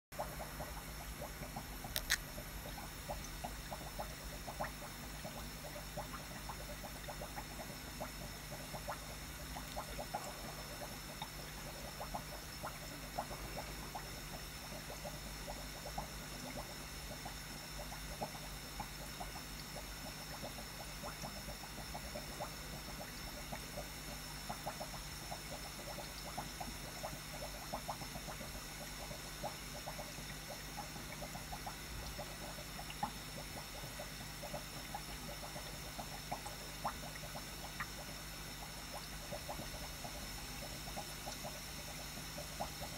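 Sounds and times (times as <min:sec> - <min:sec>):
aquarium bubbling pops: 0:00.2 - 0:42.9
aquarium filter hum: 0:00.2 - 0:42.9.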